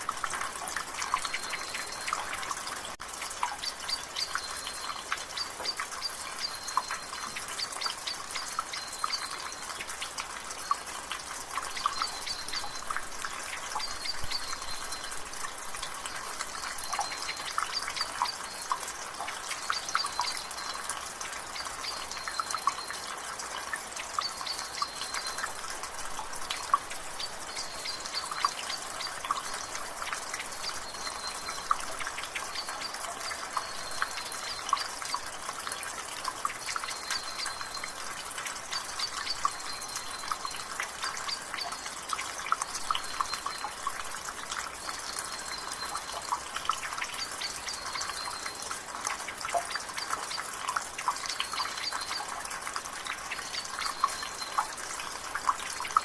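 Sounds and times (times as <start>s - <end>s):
water dripping from gutter: 0.0s - 56.0s.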